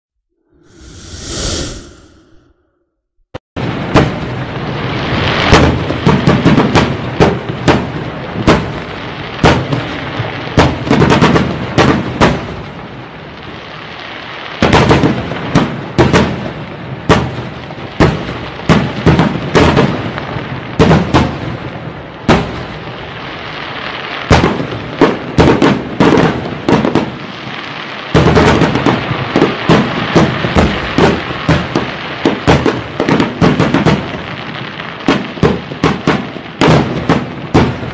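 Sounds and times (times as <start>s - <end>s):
firework crackling: 3.7s - 37.9s.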